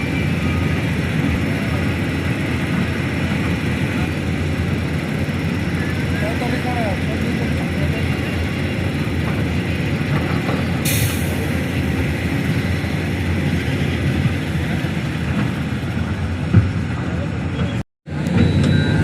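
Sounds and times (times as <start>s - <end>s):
excavator diesel engine rumbling: 0.0s - 19.0s.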